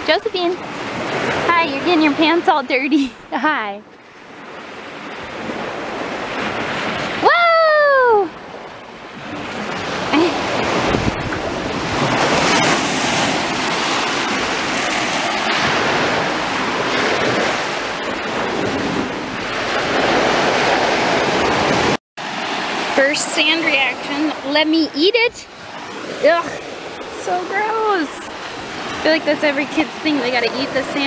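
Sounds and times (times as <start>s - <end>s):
wind buffeting microphone: 0.0s - 31.0s
waves washing onto pebbly shore: 4.4s - 31.0s.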